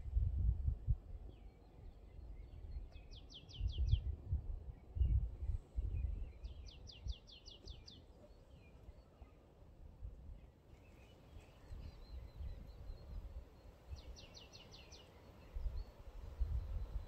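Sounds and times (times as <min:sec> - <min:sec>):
wind rumble on microphone: 0:00.0 - 0:09.0, 0:09.8 - 0:17.0.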